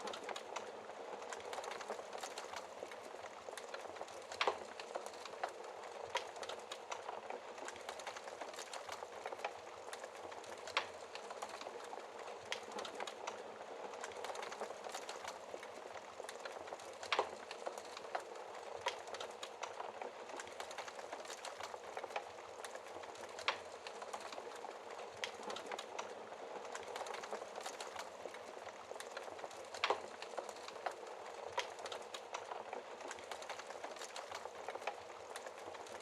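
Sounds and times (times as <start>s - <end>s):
fire hissing and crackling: 0.0s - 36.0s.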